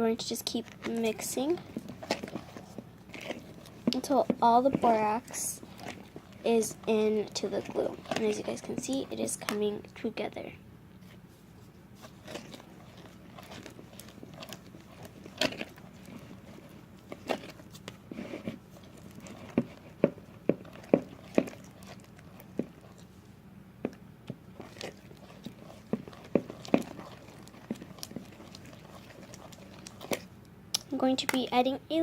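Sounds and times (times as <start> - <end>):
slime stirred with sticky clicks: 0.0 - 10.4, 11.0 - 31.8.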